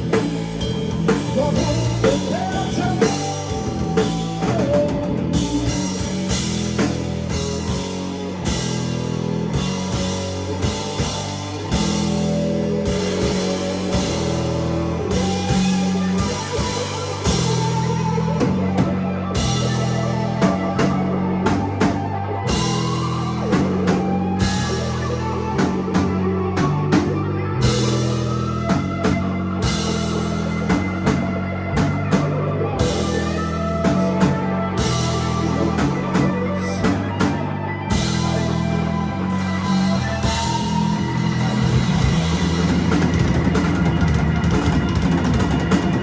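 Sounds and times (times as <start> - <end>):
bass guitar: 0.0 - 46.0
drum kit beat: 0.0 - 46.0
electric guitar: 0.0 - 46.0.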